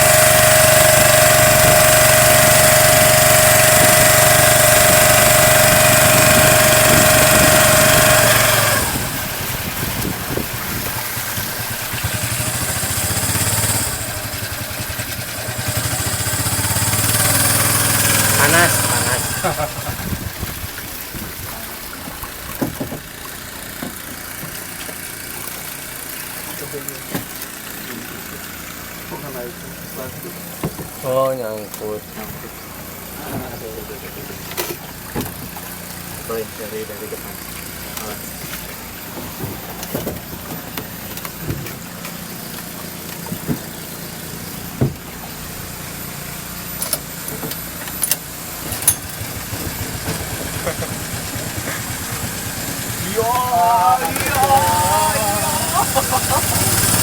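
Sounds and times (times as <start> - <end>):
engine idling: 0.0 - 35.1, 35.7 - 57.0.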